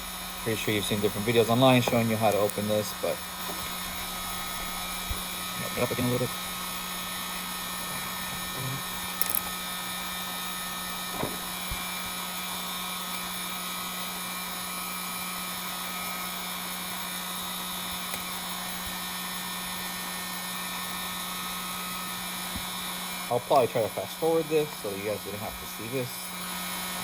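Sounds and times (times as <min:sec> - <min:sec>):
heat gun humming: 0:00.0 - 0:27.0.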